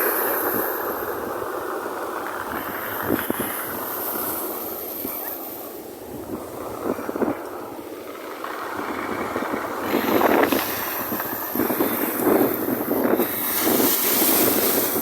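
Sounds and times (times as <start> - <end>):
waves breaking: 0.0 - 15.0
wind on microphone: 0.0 - 15.0.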